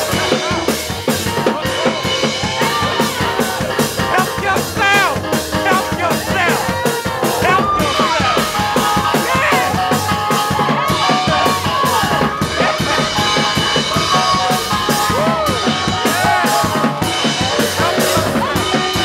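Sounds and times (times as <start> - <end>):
drum kit beat: 0.0 - 19.0
sustained keyboard chords: 0.0 - 19.0
voices shouting and singing: 0.0 - 19.0.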